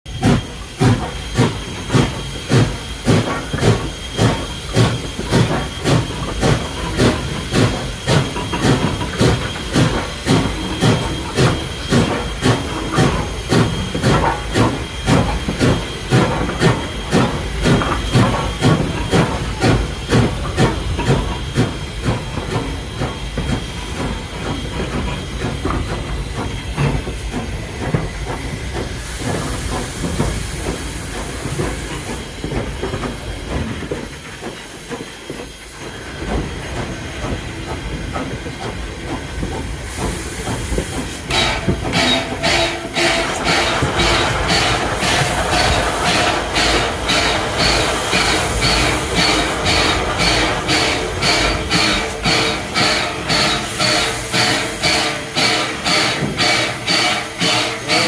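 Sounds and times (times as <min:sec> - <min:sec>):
steam hissing: 0:00.1 - 0:58.0
steam train chuffing beat: 0:00.1 - 0:58.0.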